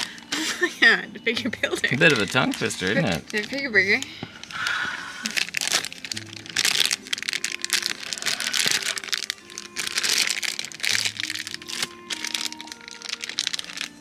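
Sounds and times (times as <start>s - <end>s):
quiet background music: 0.0s - 14.0s
packaging crinkling: 1.8s - 14.0s.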